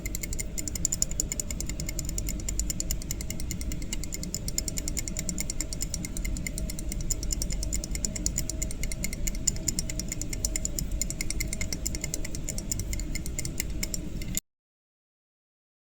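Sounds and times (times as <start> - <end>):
mechanism clicking rapidly: 0.0 - 14.4.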